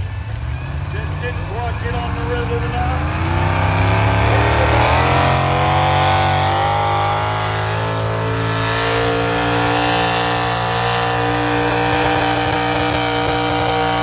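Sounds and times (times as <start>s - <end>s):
vehicle engine at high revs: 0.0s - 14.0s.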